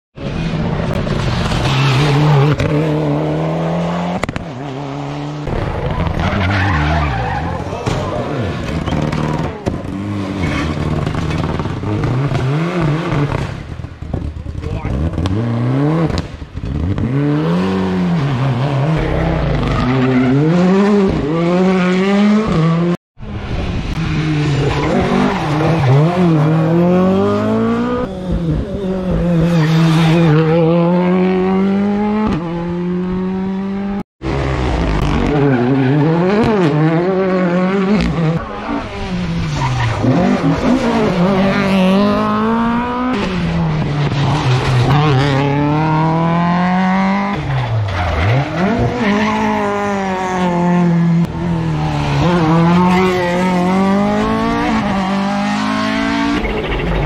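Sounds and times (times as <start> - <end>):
rally car engines revving: 0.2 - 57.0.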